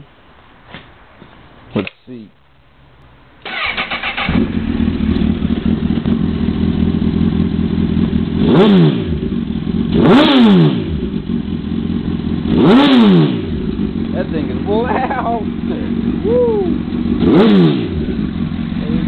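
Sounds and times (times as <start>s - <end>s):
motorcycle throttle blips: 3.0s - 19.0s
motorcycle engine idling: 3.5s - 19.0s.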